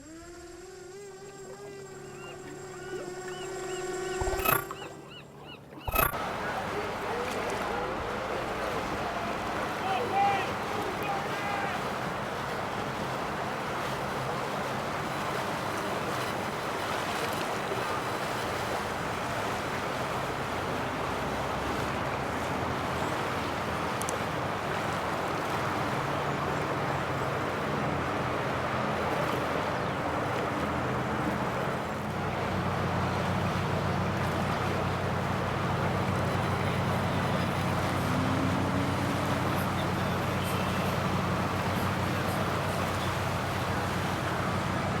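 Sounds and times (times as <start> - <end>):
boat engines running: 0.0 - 45.0
wind: 0.0 - 45.0
water rushing: 1.9 - 45.0.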